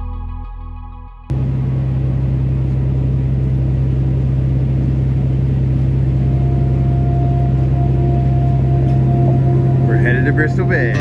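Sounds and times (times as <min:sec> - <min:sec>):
boat engine droning: 0:01.3 - 0:11.0
faint high whine: 0:01.3 - 0:11.0.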